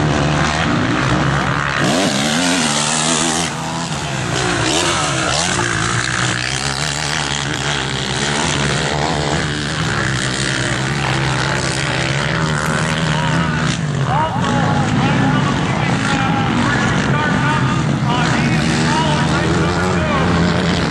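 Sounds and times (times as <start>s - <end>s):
motocross bikes revving: 0.0s - 20.9s.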